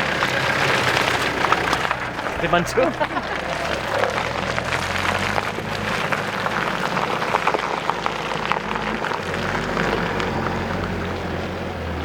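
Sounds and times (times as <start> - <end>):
diesel engine running: 0.0 - 12.0
tyres crackling on stones: 0.0 - 12.0.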